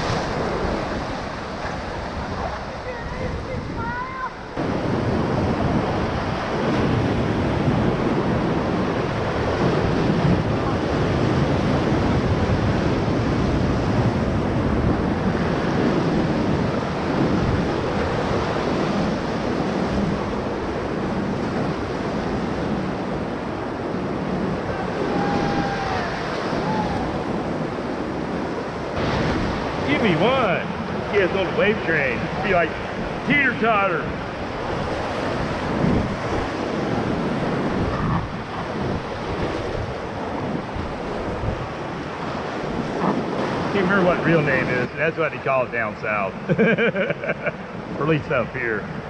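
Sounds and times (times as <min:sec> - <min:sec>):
wind buffeting microphone: 0:00.0 - 0:45.0
rushing whitewater: 0:00.0 - 0:46.6, 0:47.5 - 0:49.0.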